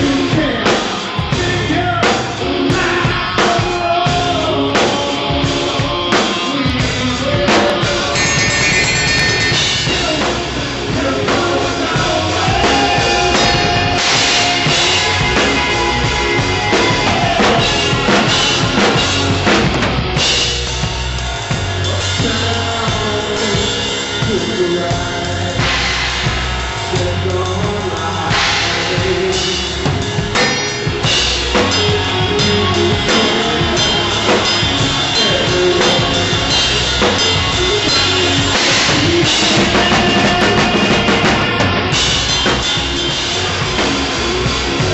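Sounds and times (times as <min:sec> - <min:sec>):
rock band playing live: 0:00.0 - 0:44.9.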